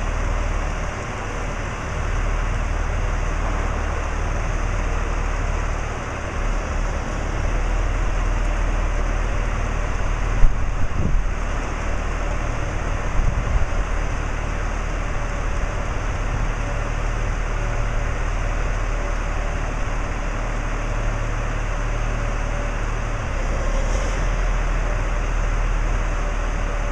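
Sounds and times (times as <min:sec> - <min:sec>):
forklift engine humming: 0:00.0 - 0:26.9.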